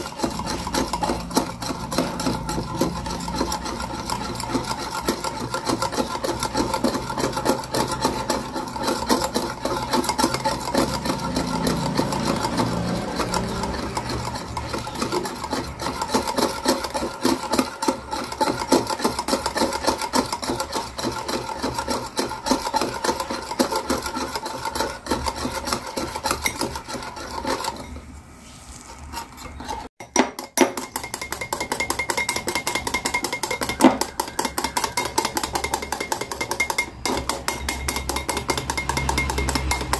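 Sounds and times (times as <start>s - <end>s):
whisk clicks: 0.0s - 28.0s, 29.5s - 39.9s
whisk scraping glass bowl: 0.0s - 39.9s.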